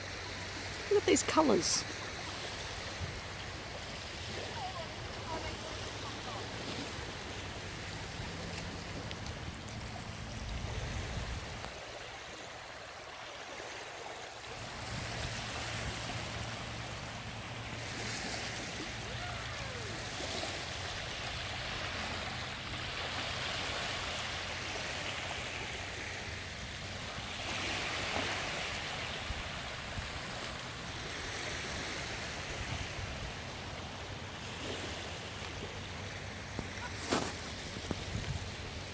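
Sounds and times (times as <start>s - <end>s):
small waves lapping on sand: 0.0s - 38.9s.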